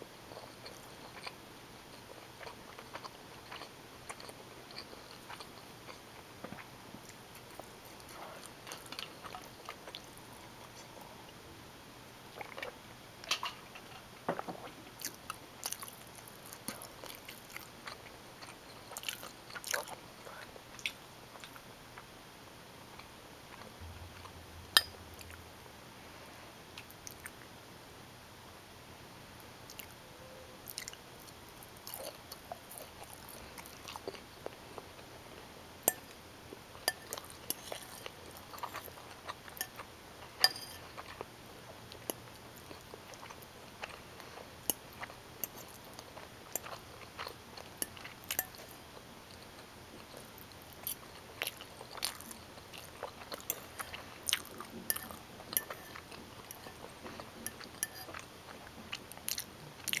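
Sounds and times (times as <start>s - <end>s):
person chewing food: 0.3s - 11.1s, 12.3s - 22.1s, 29.7s - 30.0s, 30.6s - 60.0s.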